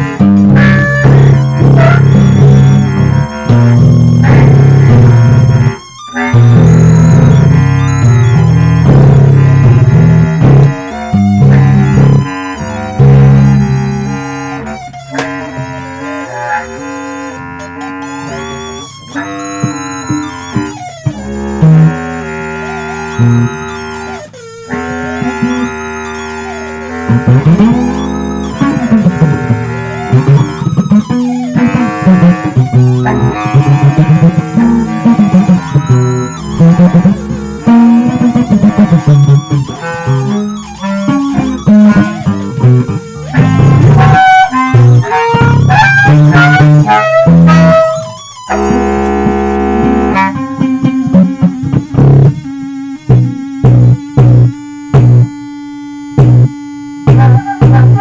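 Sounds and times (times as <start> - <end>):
plucked guitar: 0.0 - 55.4, 56.0 - 58.0
electric bass: 0.0 - 58.0.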